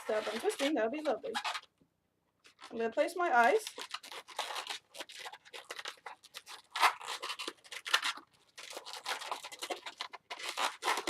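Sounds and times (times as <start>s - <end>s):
balloons squeaking: 0.0s - 1.7s, 3.4s - 11.0s.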